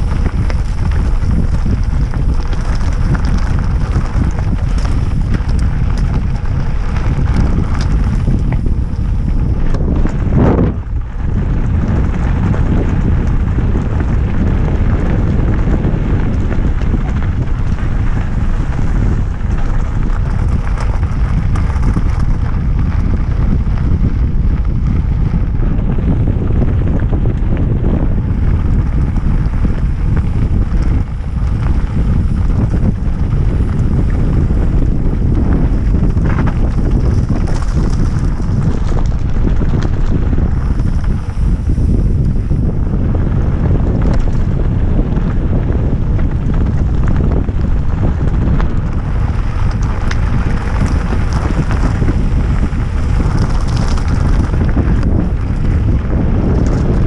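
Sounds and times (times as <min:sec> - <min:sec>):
tyres rumbling on gravel: 0:00.0 - 0:57.0
wind buffeting microphone: 0:00.0 - 0:57.0.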